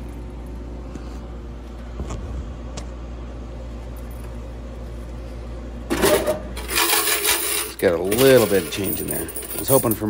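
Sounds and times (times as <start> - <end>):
vending machine humming: 0.0 - 10.0.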